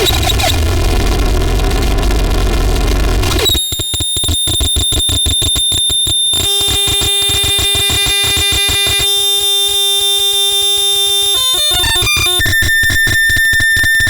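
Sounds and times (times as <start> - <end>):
held distorted tone: 0.0 - 14.0
stuttering electronic tone: 0.0 - 14.0.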